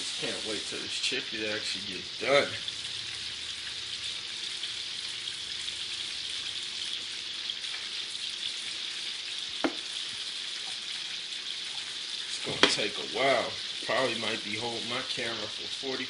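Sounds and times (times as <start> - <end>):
chicken frying in grease: 0.0 - 16.0.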